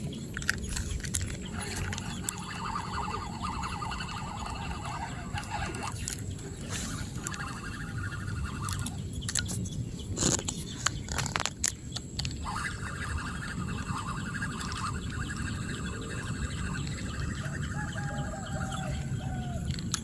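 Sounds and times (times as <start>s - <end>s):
sharp clicks: 0.0s - 6.5s, 7.1s - 17.4s, 19.0s - 20.0s
birds or insects chirring: 0.0s - 20.0s
wind rumble on microphone: 0.0s - 20.0s.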